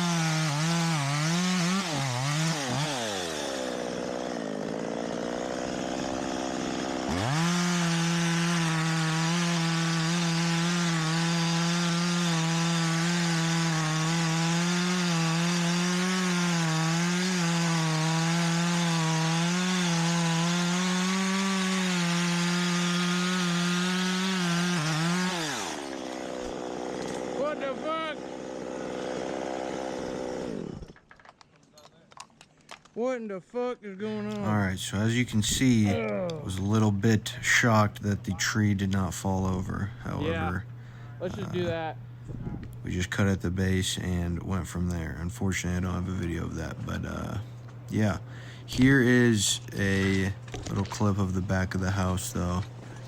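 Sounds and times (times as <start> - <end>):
chainsaw cutting wood: 0.0 - 31.4, 34.1 - 41.8, 42.6 - 53.0.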